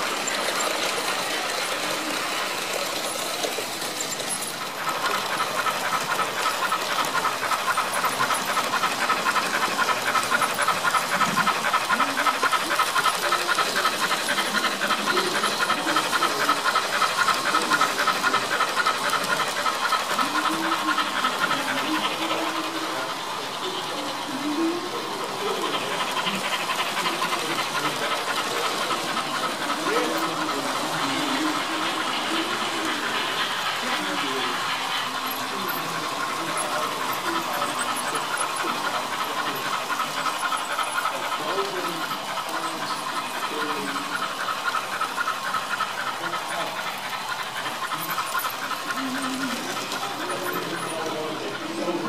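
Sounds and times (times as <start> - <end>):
faint voices: 0.0 - 52.0
model steam locomotive chuffing: 0.0 - 52.0
murmur of crowd: 0.0 - 52.0.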